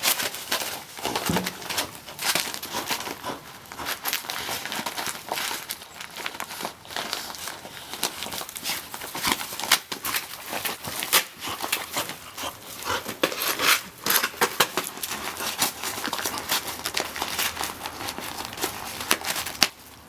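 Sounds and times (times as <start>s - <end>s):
gift wrapping tearing: 0.0s - 20.0s.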